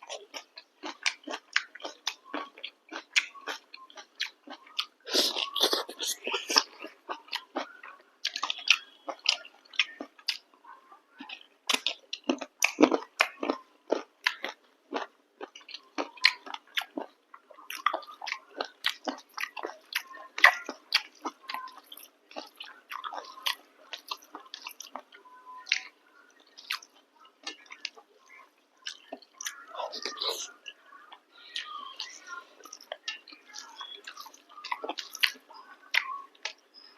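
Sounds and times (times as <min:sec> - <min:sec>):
person chewing food: 0:00.0 - 0:10.5, 0:11.2 - 0:36.9.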